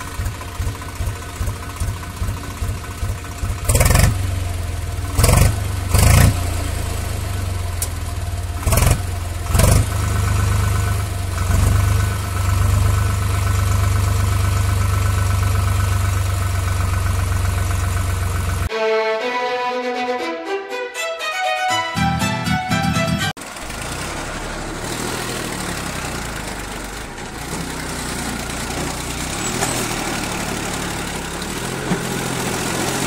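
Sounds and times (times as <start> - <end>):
tractor engine running: 0.0 - 18.7, 22.2 - 33.0.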